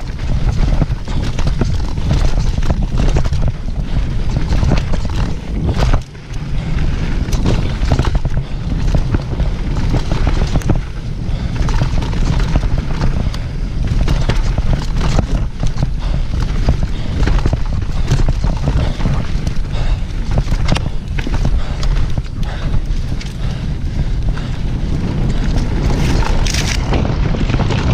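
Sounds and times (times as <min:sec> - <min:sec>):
bike rattling and knocking: 0:00.0 - 0:27.9
wind buffeting microphone: 0:00.0 - 0:27.9.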